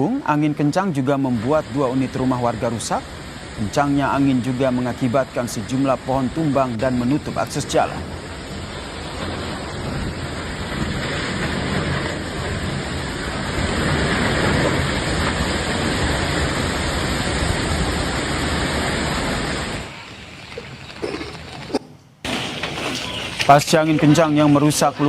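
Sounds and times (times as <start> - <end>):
strong storm wind blowing: 0.0 - 21.7.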